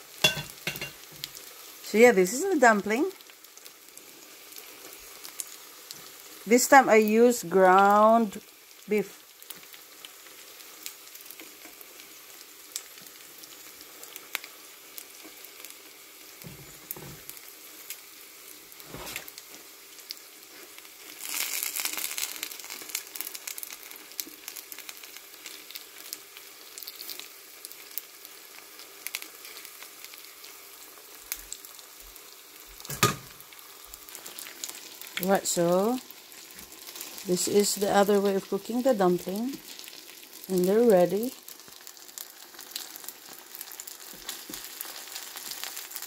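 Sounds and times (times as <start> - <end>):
dumplings sizzling in oil: 0.0 - 46.0.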